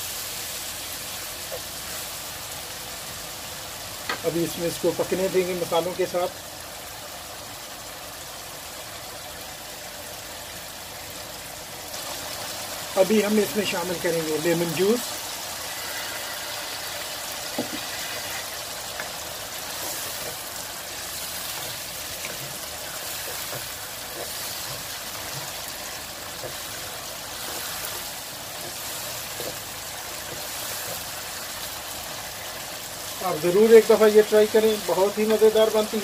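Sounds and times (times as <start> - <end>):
sauce sizzling in a pan: 0.0 - 36.0.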